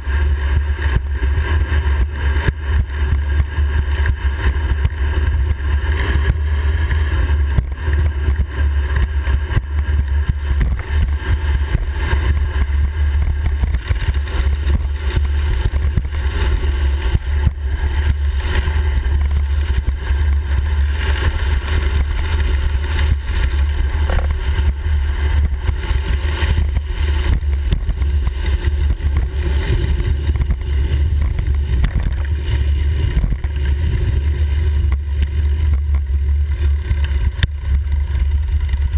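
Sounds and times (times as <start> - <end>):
road noise: 0.0 - 38.9
wind rumble: 0.0 - 38.9.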